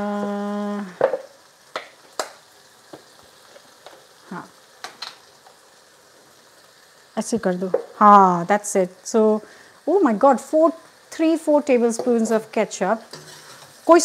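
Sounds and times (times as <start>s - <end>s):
vegetables sizzling in sauce: 0.0s - 14.0s.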